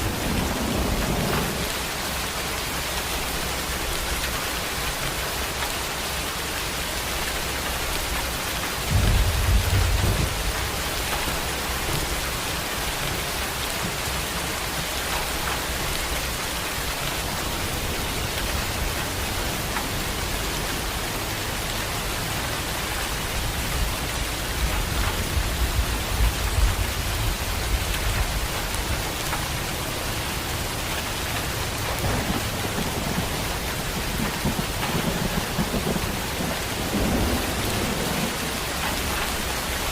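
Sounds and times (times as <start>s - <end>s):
thunder rumbling: 0.0s - 2.1s, 7.9s - 29.7s, 31.5s - 39.9s
heavy rain: 0.0s - 39.9s.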